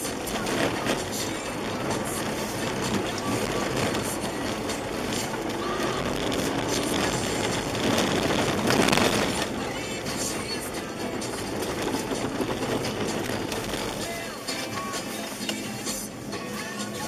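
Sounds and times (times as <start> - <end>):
car engine from inside cabin: 0.0 - 17.0
tyres on snow and ice: 0.0 - 17.0.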